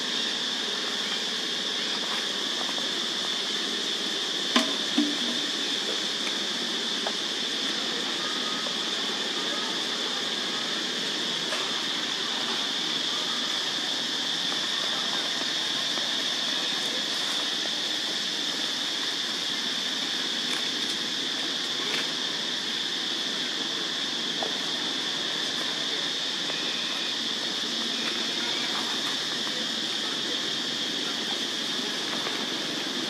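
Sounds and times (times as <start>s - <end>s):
high-pitched insect drone: 0.0s - 33.0s.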